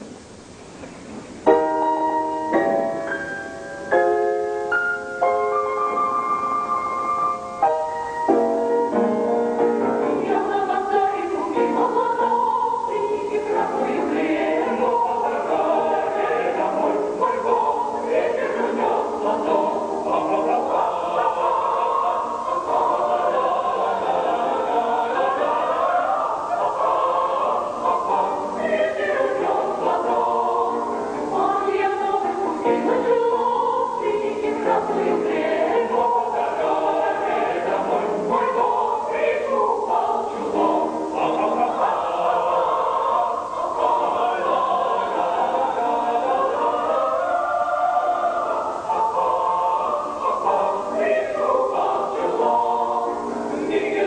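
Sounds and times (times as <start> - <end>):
mixed choir singing: 5.3 - 54.0.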